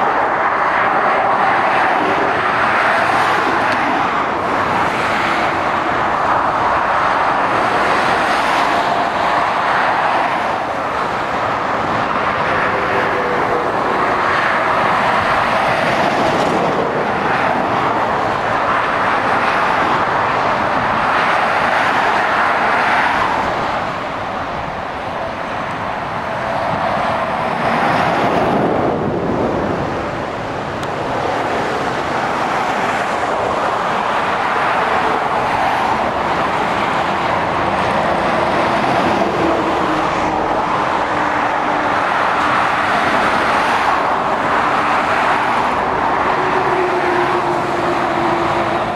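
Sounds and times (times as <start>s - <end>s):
motorway traffic passing: 0.0s - 48.9s.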